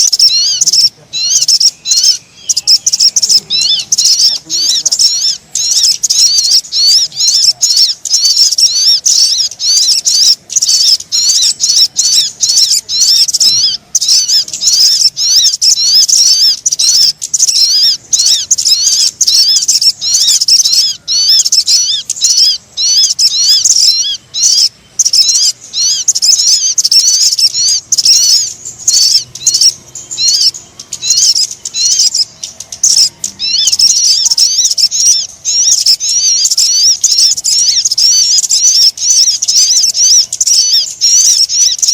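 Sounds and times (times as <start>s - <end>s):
high chirping bird calls: 0.0s - 41.9s.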